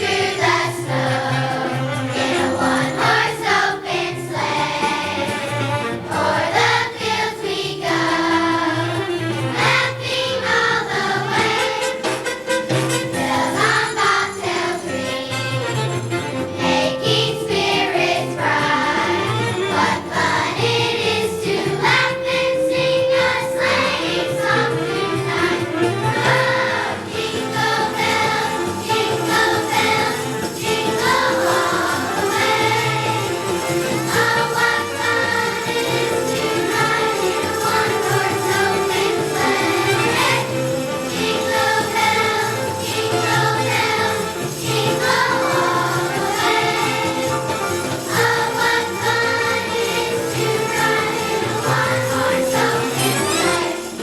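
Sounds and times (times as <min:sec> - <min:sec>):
children's choir singing: 0:00.0 - 0:54.0
children's choir singing a christmas song: 0:00.0 - 0:54.0
musical accompaniment: 0:00.0 - 0:54.0.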